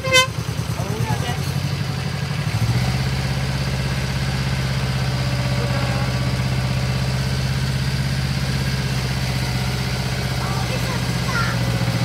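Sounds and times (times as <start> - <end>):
diesel locomotive engine throbbing: 0.0 - 12.0.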